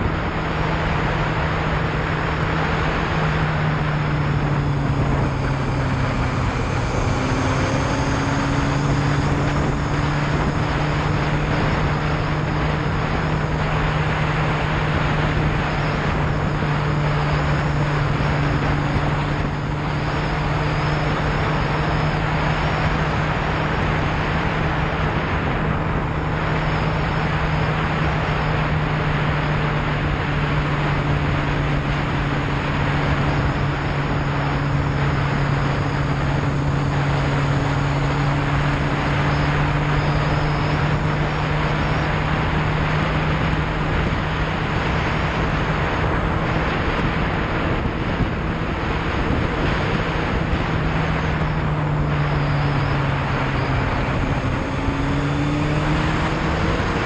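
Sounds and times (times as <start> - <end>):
motorcycle engine cruising: 0.0 - 57.0
wind rushing over microphone: 0.0 - 57.0.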